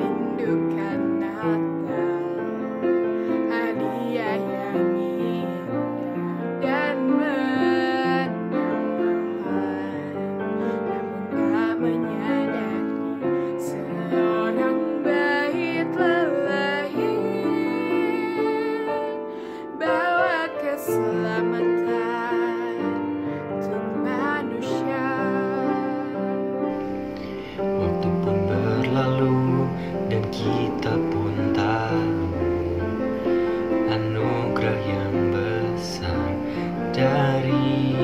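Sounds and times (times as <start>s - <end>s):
piano accompaniment: 0.0s - 38.0s
woman singing a slow ballad: 0.0s - 38.0s.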